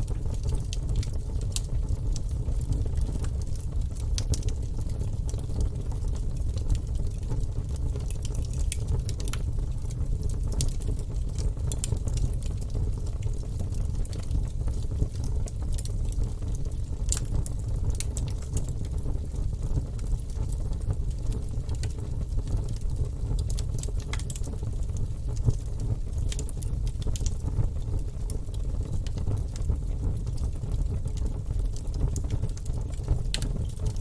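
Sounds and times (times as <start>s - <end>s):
logs crackling and popping in fireplace: 0.0s - 34.0s
low rumble of fire: 0.0s - 34.0s.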